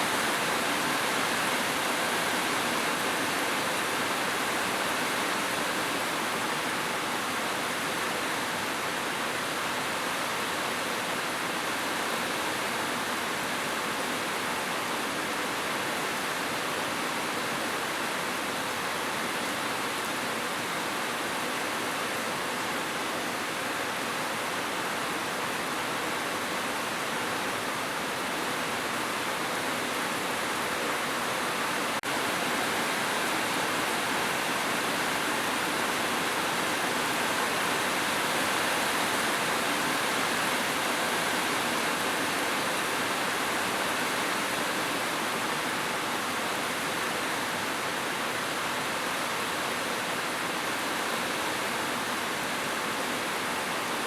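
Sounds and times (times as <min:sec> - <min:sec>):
heavy rain on a roof: 0:00.0 - 0:54.0.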